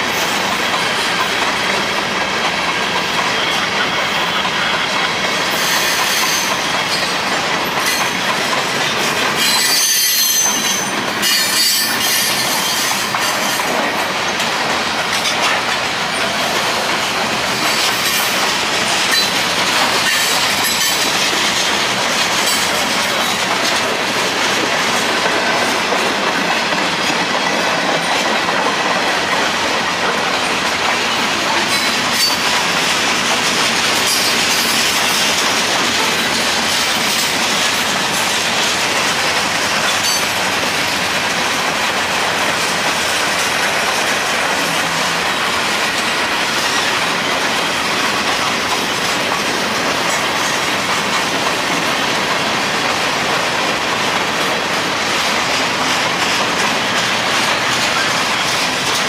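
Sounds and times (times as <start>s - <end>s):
freight train rolling past: 0.0s - 59.0s
steel wheels on rail: 0.0s - 59.0s.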